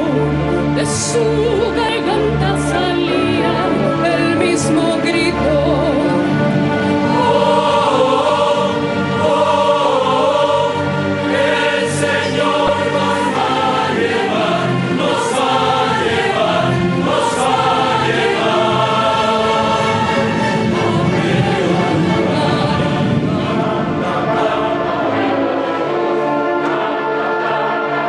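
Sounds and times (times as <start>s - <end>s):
choir singing sacred music: 0.0s - 28.0s.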